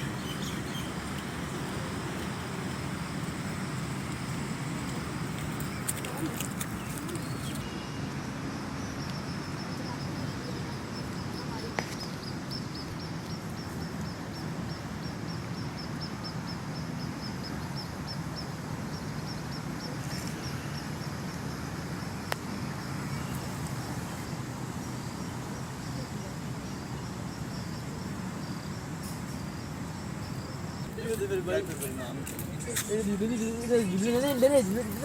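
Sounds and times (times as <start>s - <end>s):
insect chirping: 0.0s - 35.0s
low outdoor background noise: 0.0s - 35.0s.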